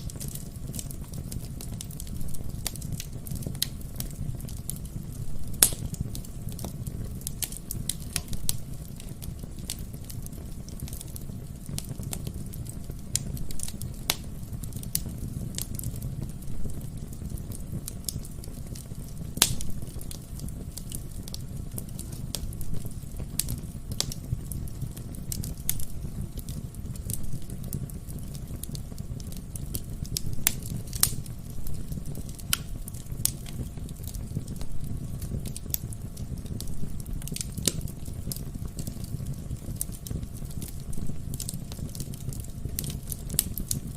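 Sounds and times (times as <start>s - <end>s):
burning logs crackling and popping: 0.0s - 43.9s
fire flames rumbling: 0.0s - 43.9s.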